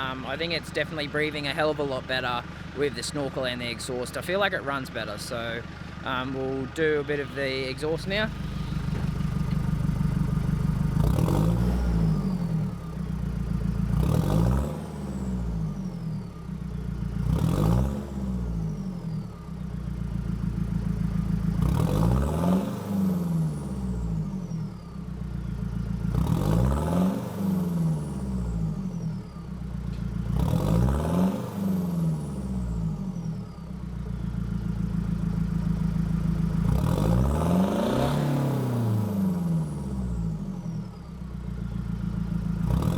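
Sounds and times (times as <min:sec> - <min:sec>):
diesel engine idling and revving: 0:00.0 - 0:42.9.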